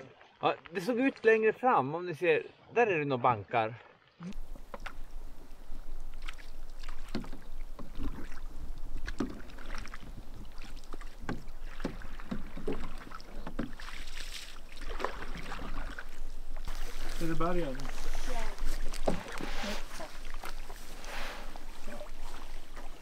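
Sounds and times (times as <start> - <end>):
paddle strokes splashing water: 0.0 - 1.4, 3.7 - 23.0.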